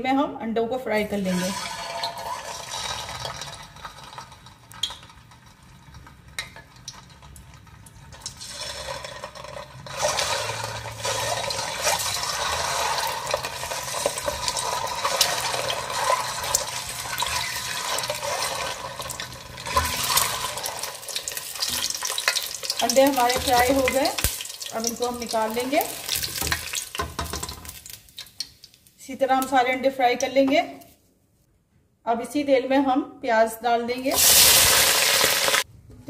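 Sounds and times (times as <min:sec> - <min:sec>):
eggs frying in hot oil: 0:01.4 - 0:29.5, 0:34.1 - 0:35.7.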